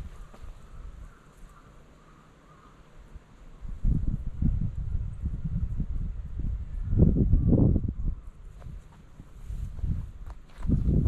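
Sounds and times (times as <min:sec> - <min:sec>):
wind buffeting microphone: 0:00.0 - 0:01.6, 0:03.1 - 0:11.0.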